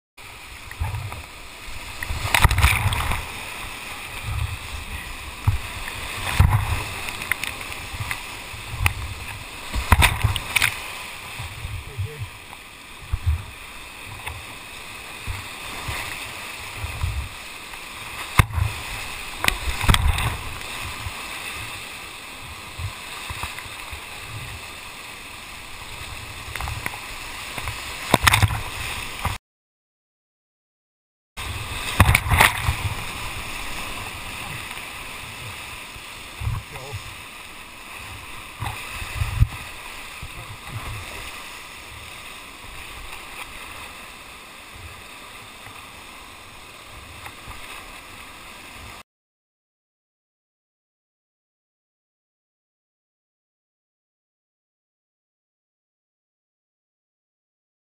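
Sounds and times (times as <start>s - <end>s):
rushing whitewater river: 0.2s - 29.4s, 31.4s - 49.0s
waves splashing over camera: 0.2s - 29.4s, 31.4s - 49.0s.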